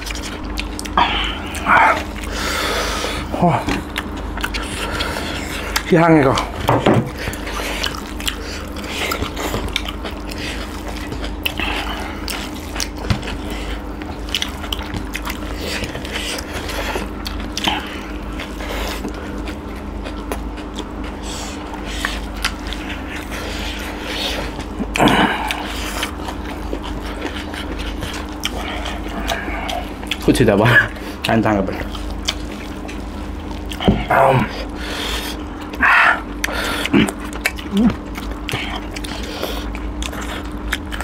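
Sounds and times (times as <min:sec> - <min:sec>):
chewing and crunching vegetables: 0:00.0 - 0:41.0
steady low hum: 0:00.0 - 0:41.0.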